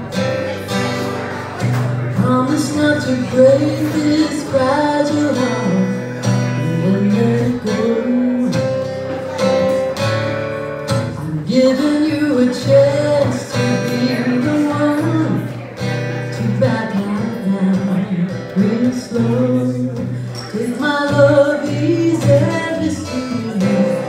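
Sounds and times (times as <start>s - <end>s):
strummed acoustic guitar: 0.0s - 24.0s
woman singing: 2.0s - 8.9s, 11.2s - 24.0s.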